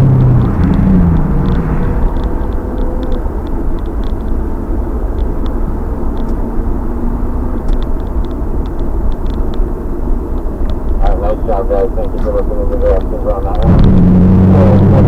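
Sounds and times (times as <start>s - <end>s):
light ticks: 0.0s - 11.2s, 11.9s - 13.7s
wind rumble on microphone: 0.0s - 12.1s
car engine at low revs: 0.0s - 15.0s.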